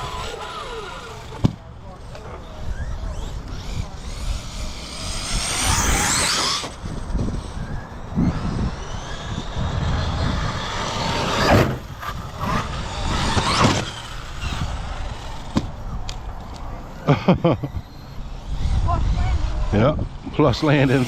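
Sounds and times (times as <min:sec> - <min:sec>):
tyres rumbling on ground: 0:00.0 - 0:18.5
rc car motors whining: 0:00.0 - 0:21.0.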